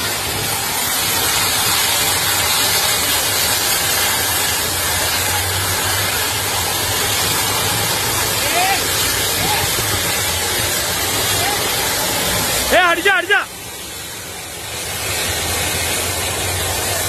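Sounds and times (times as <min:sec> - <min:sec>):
burning car rushing hiss: 0:00.0 - 0:17.0.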